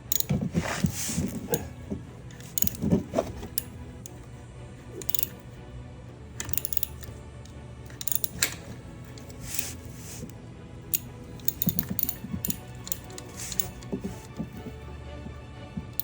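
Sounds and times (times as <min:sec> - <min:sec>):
metal hand tools clinking: 0:00.0 - 0:04.2, 0:04.9 - 0:05.4, 0:06.4 - 0:07.2, 0:07.9 - 0:10.3, 0:10.9 - 0:16.0
background music: 0:00.0 - 0:16.0.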